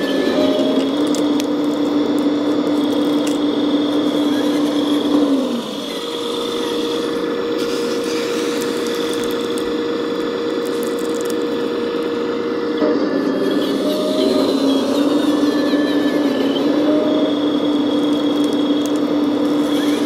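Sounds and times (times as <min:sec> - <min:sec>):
model excavator motors whining: 0:00.0 - 0:20.0.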